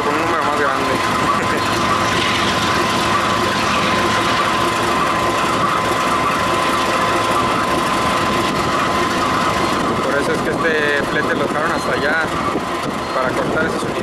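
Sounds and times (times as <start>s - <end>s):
constant high whine: 0.0s - 14.0s
locomotive engine running: 0.0s - 14.0s.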